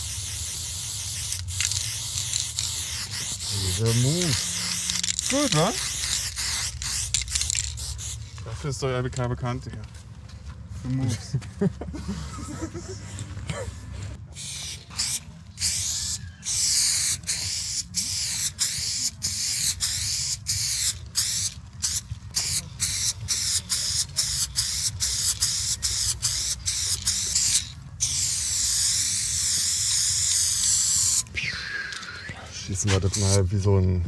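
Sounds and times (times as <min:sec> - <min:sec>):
spray paint can hissing: 0:00.0 - 0:08.4, 0:14.3 - 0:33.4.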